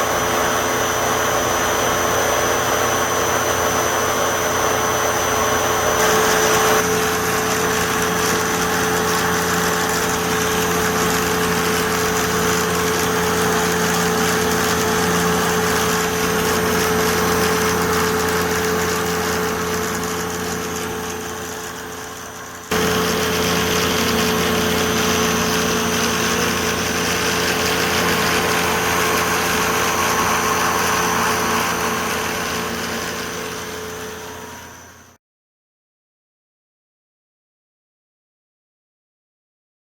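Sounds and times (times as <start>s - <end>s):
power plant machinery drone: 0.0s - 35.2s.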